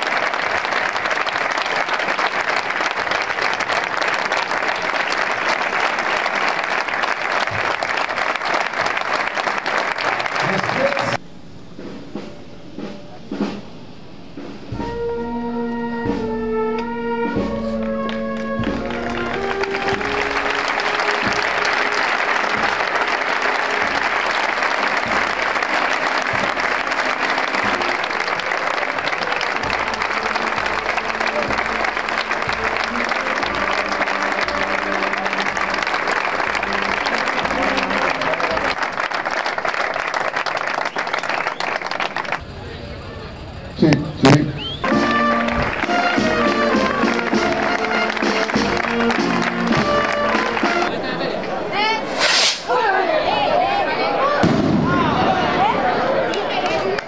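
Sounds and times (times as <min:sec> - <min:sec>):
crowd applauding: 0:00.0 - 0:11.2, 0:16.7 - 0:51.8, 0:53.7 - 0:57.0
band music: 0:00.0 - 0:52.8.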